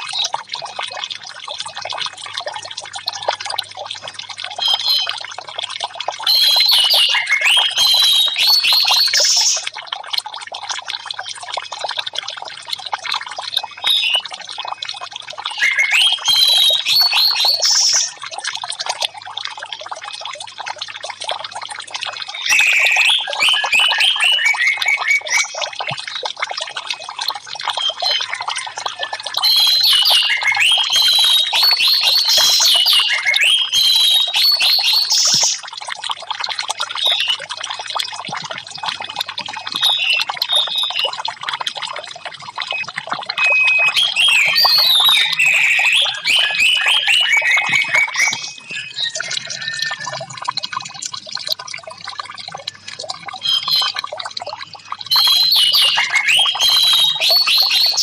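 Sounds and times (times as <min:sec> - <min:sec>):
trickle of running water: 0:00.0 - 0:58.0.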